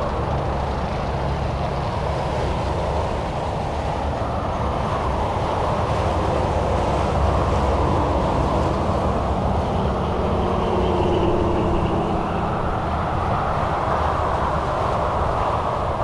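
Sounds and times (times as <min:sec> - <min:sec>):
highway traffic rushing: 0:00.0 - 0:16.0
low traffic rumble: 0:00.0 - 0:16.0.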